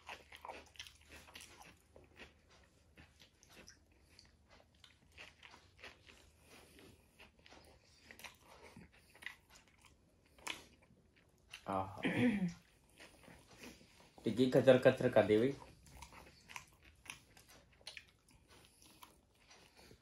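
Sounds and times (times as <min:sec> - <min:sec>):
person chewing crunchy burger: 0:00.0 - 0:20.0.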